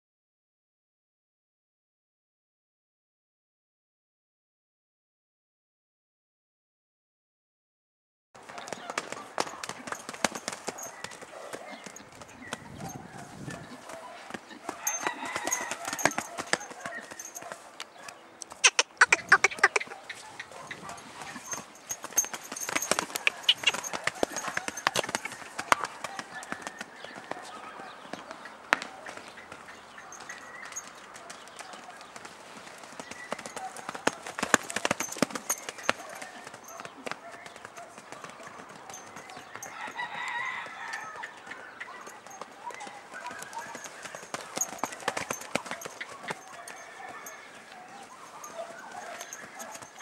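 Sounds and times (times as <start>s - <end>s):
horse hoofbeats on dirt: 8.4s - 50.0s.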